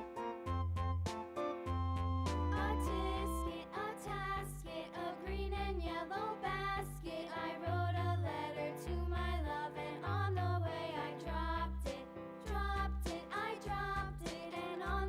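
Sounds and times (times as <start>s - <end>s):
children's background music: 0.0s - 15.0s.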